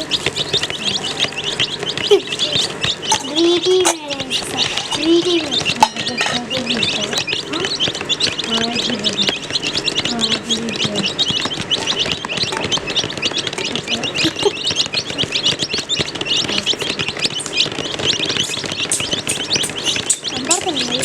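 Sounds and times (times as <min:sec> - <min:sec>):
baby chicks peeping: 0:00.0 - 0:21.0.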